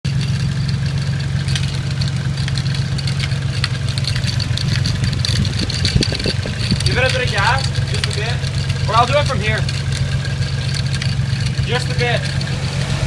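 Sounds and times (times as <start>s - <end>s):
car engine idling: 0.0s - 13.0s
irregular engine rattle: 0.0s - 13.0s.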